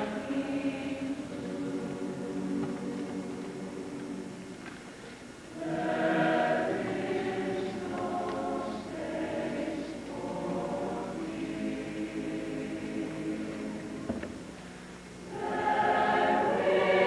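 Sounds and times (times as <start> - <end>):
mixed choir singing: 0.0 - 4.6, 5.5 - 14.4, 15.2 - 17.0.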